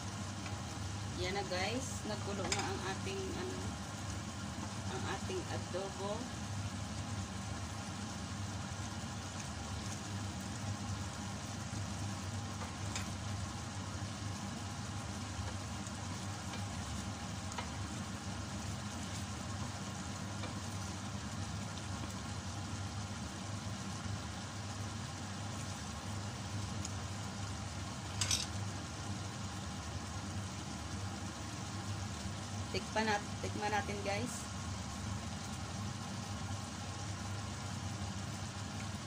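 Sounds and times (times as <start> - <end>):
steady low hum: 0.0 - 39.0
stew bubbling in a pot: 0.0 - 39.0.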